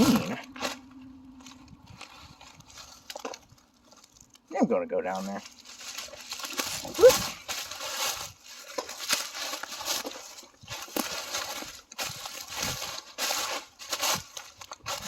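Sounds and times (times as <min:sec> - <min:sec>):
footsteps crunching dry leaves: 0:00.0 - 0:04.5, 0:05.1 - 0:15.0.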